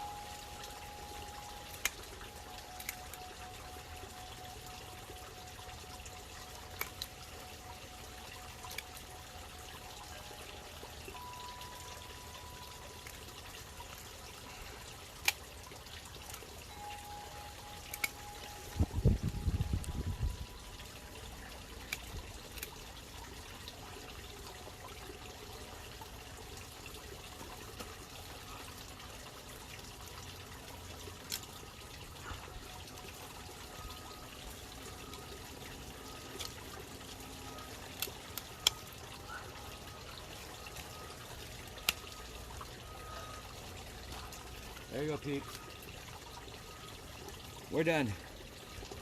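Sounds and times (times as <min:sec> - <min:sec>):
pond water bubbling and trickling: 0:00.0 - 0:49.0.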